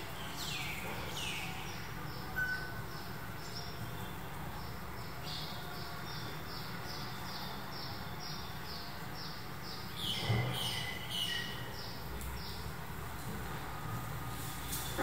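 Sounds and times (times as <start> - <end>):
bird chirping: 0.1 - 12.6.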